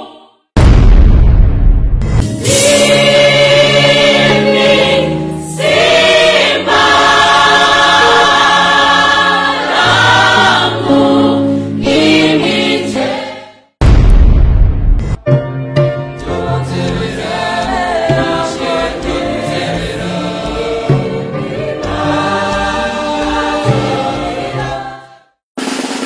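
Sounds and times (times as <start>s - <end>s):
choir singing in harmony: 0.0s - 0.5s, 2.4s - 13.7s, 16.2s - 25.4s.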